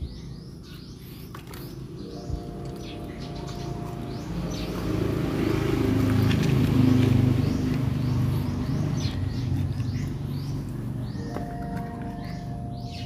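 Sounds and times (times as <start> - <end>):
low engine drone: 0.0 - 13.0
small birds chirping: 0.0 - 13.0.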